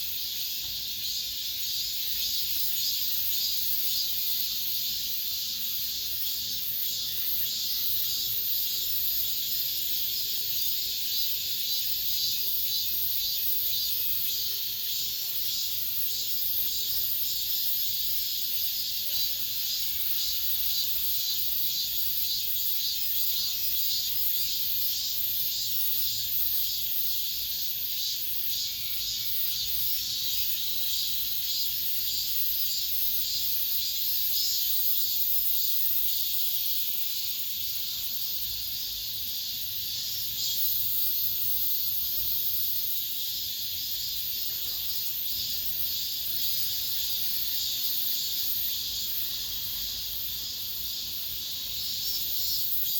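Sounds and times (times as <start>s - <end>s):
cicadas buzzing: 0.0s - 52.9s.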